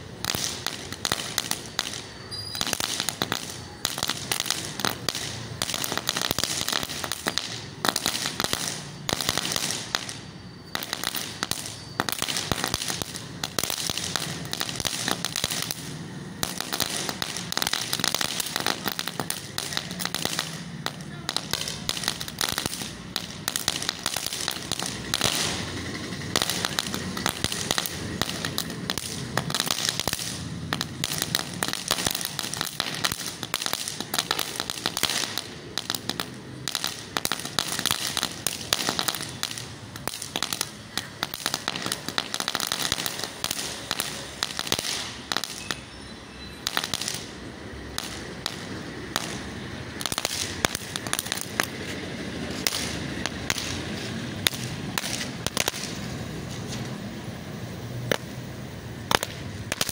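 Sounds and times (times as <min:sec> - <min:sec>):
ground firework crackling and popping: 0:00.0 - 0:59.9
sparks fizzing: 0:00.2 - 0:57.0, 0:59.0 - 0:59.9.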